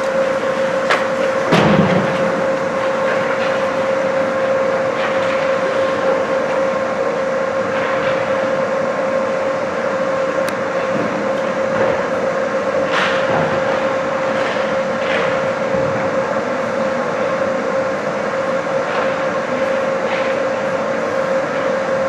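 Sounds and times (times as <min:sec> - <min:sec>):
steady rink hum: 0:00.0 - 0:22.0.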